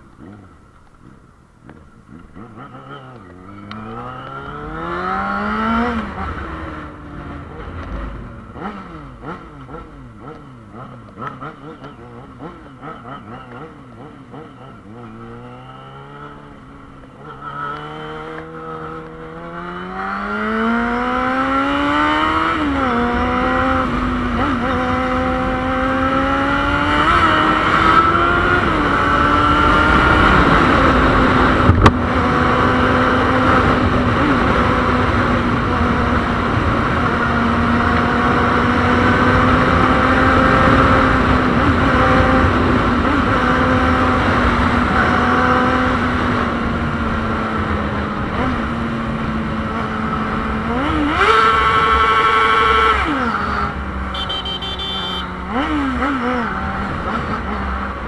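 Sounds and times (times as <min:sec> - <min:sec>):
motorcycle engine accelerating: 0:00.0 - 0:58.0
rushing wind: 0:01.8 - 0:58.0.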